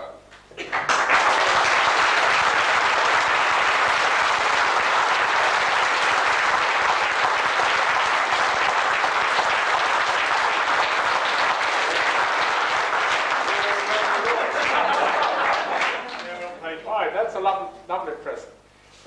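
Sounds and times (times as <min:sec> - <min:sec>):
audience applauding: 0:00.6 - 0:16.6.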